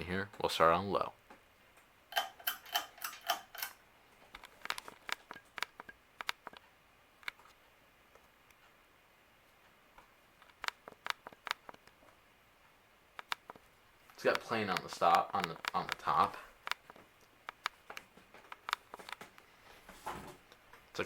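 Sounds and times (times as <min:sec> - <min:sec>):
ceiling fan clicking: 0:01.2 - 0:08.8, 0:09.4 - 0:19.5.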